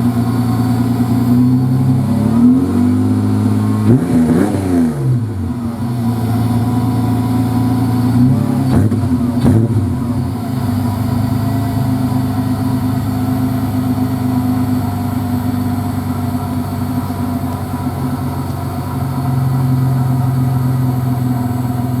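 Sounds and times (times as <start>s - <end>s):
car engine idling: 0.0s - 22.0s
engine throttle blips: 0.0s - 22.0s.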